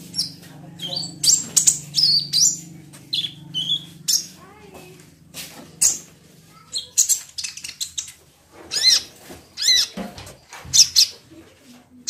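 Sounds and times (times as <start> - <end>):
bird chirping: 0.0 - 4.5, 5.7 - 11.2.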